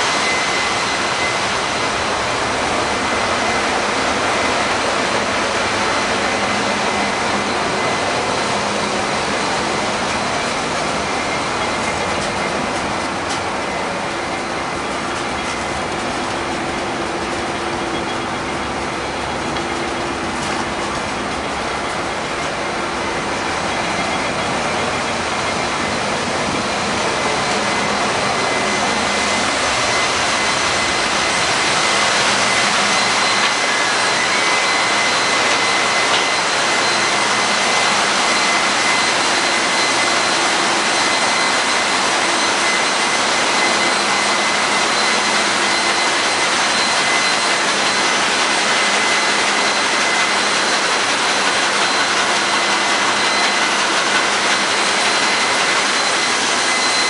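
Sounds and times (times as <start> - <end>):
ship engine roar: 0.0 - 57.0
turbocharger high whine: 0.0 - 57.0.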